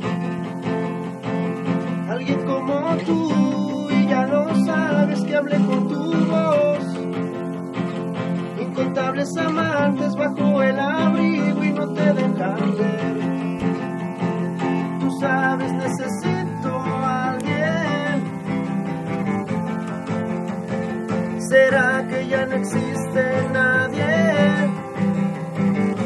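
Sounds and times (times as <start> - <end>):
acoustic guitar chords: 0.0 - 26.0
man singing: 2.0 - 7.4, 8.3 - 19.9, 21.1 - 25.3.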